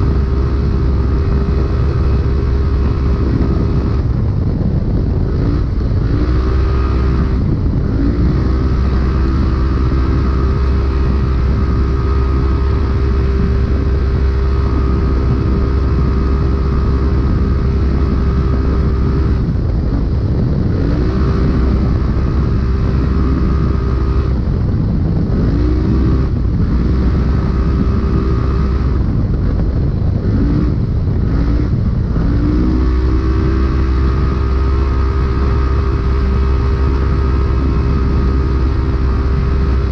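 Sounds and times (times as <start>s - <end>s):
engine revving: 0.0s - 4.2s, 5.1s - 39.9s
loud rushing noise: 0.0s - 39.9s.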